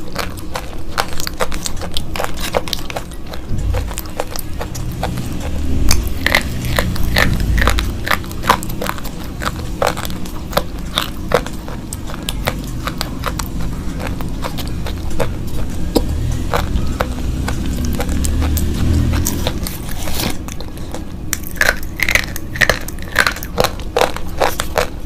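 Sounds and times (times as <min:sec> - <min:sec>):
chalk pencils crunching in teeth: 0:00.0 - 0:25.0.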